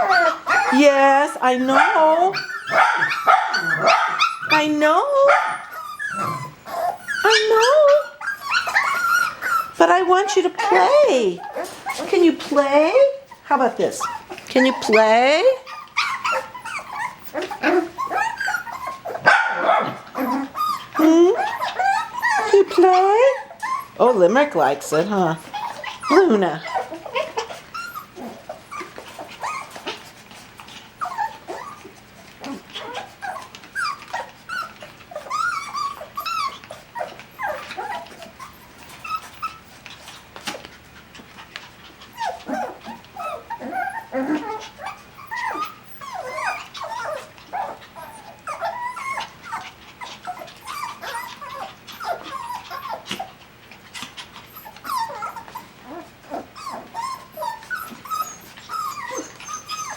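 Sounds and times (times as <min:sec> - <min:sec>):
puppies whining and yipping: 0:00.0 - 0:59.9.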